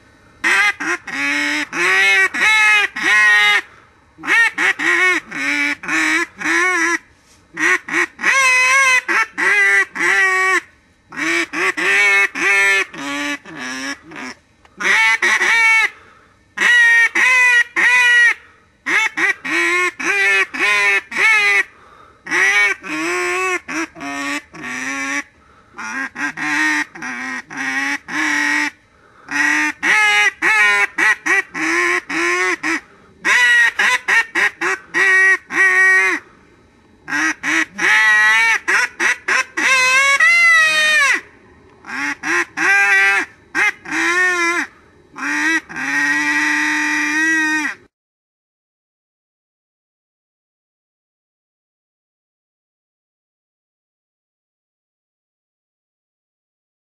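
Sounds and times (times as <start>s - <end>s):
duck call playing a tune: 0.4s - 16.0s, 16.6s - 36.2s, 37.1s - 47.9s.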